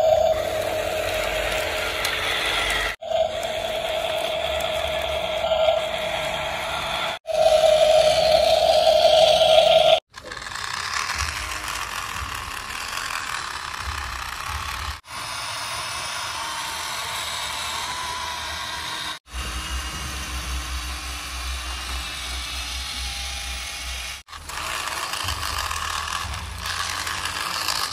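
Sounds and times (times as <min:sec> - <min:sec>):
toy gear motors whirring: 0:00.0 - 0:27.9.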